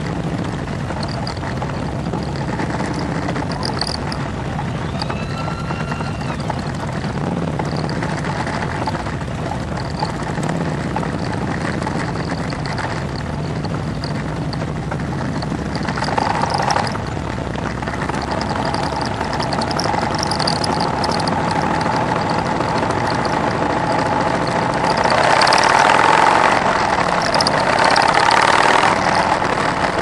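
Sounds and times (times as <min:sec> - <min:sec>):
motorcycle engines riding slowly: 0:00.0 - 0:30.0.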